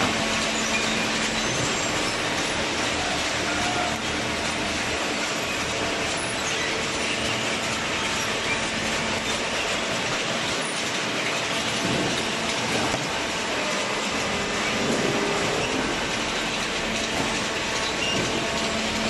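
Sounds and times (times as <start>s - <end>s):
baler machine running: 0.0s - 19.0s.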